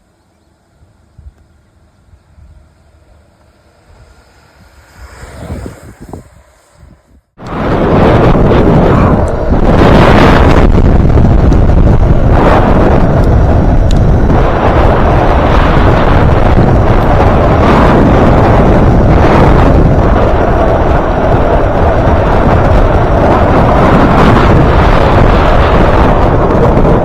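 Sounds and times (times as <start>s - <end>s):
wheels rolling on wet pavement: 1.0s - 27.0s
wind rush on microphone: 1.1s - 27.0s.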